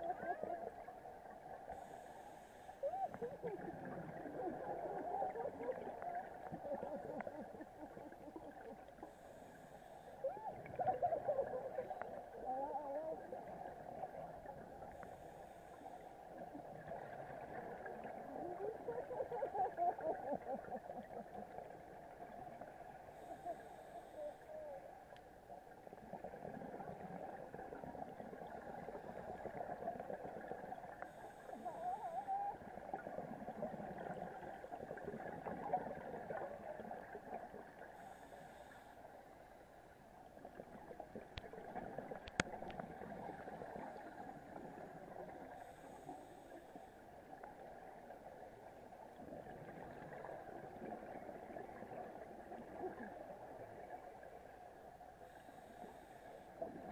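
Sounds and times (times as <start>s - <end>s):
underwater droning hum: 0.0s - 56.9s.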